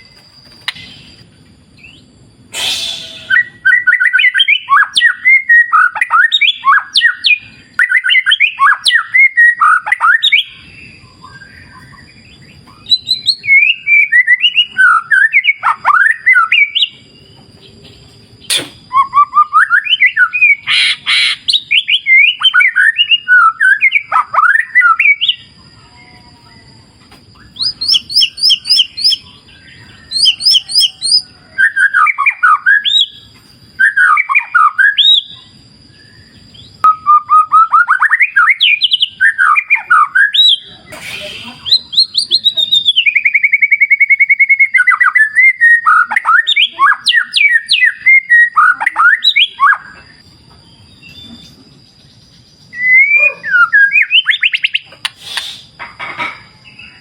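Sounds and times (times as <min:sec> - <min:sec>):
songbird whistling and trilling: 0:00.0 - 0:17.7, 0:18.4 - 0:55.8.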